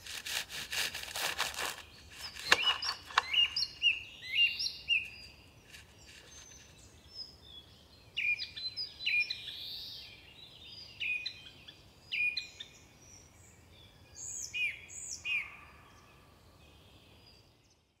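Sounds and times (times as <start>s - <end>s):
small songbirds chirping: 1.3s - 18.0s.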